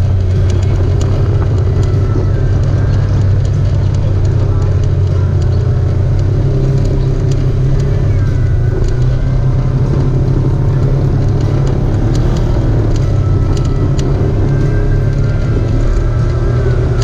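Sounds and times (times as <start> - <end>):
light ticks: 0.0 - 17.0
off-road vehicle engine droning: 0.0 - 17.0.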